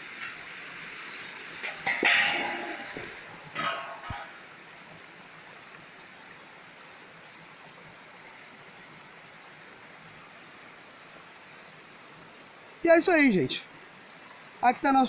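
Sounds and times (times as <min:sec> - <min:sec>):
stream running over rock: 0:00.0 - 0:15.0.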